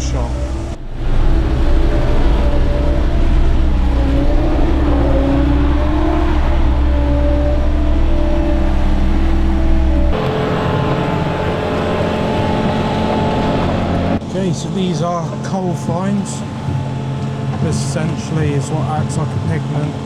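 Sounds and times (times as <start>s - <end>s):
diesel engine running: 0.0s - 20.0s
wavering machine whine: 0.0s - 20.0s.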